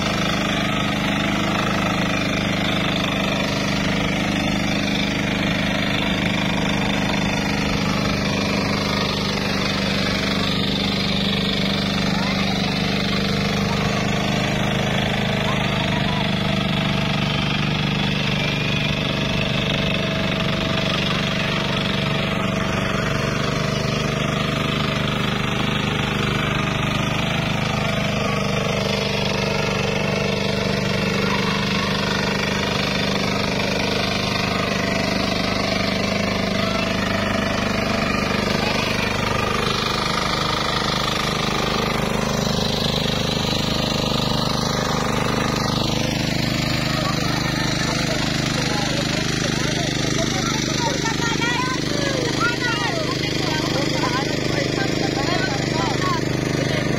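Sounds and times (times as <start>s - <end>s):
hand tractor engine running: 0.0s - 56.9s.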